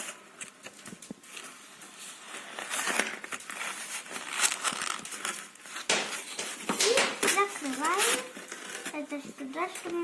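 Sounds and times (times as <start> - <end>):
cardboard rustling and creasing: 0.0 - 10.0.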